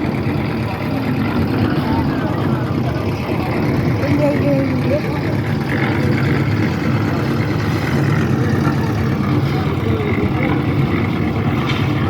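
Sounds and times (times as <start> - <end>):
concrete mixer engine running: 0.0 - 12.0.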